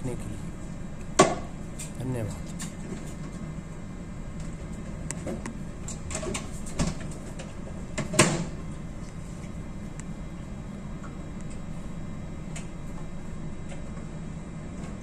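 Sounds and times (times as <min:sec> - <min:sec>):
ship cabin low hum: 0:00.0 - 0:15.0.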